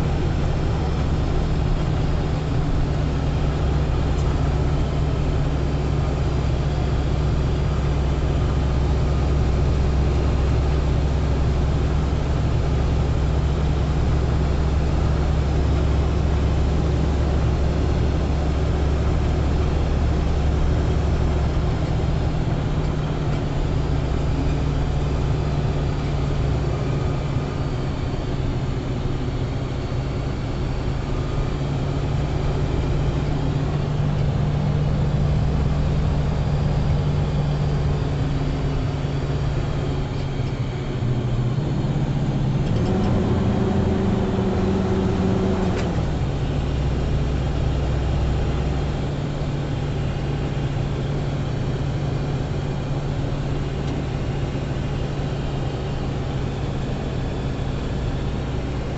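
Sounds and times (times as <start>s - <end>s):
car engine running: 0.0s - 58.9s
road noise: 0.0s - 58.9s.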